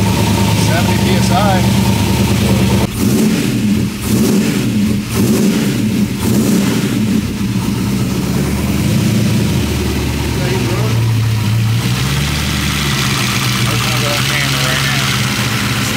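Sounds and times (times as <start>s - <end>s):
v eight engine idling unevenly: 0.0s - 15.9s.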